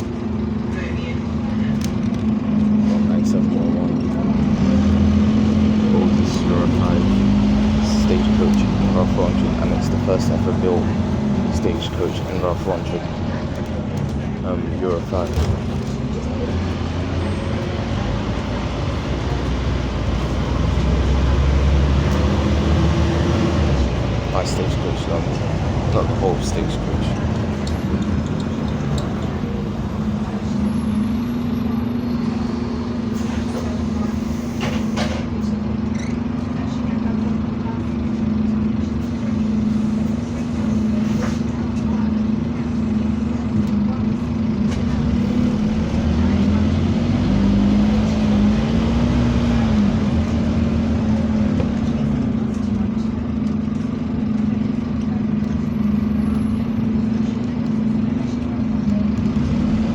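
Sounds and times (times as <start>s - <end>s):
bus engine hum: 0.0s - 59.9s
rumbling road noise: 0.0s - 59.9s.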